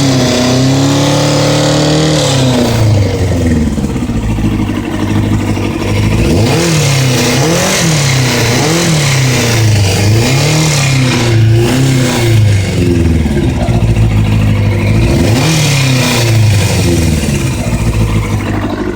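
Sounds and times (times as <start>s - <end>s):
engine revving: 0.0s - 18.9s.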